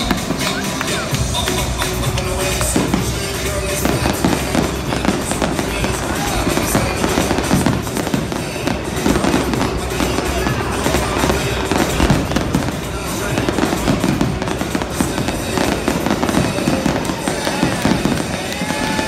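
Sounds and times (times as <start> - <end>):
fireworks bursting: 0.0 - 19.0
music playing: 0.0 - 19.0.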